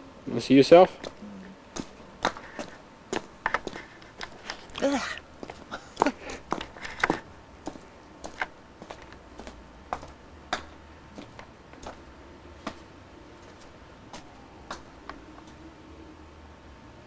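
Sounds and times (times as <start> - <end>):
faint steady hum: 0.0 - 17.0
footsteps on stone steps: 1.0 - 15.6.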